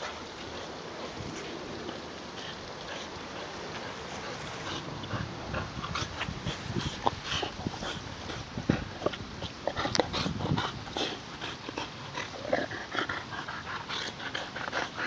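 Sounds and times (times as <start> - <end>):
dog breathing: 0.0 - 15.0
dog gnawing rubber tyre: 0.0 - 15.0.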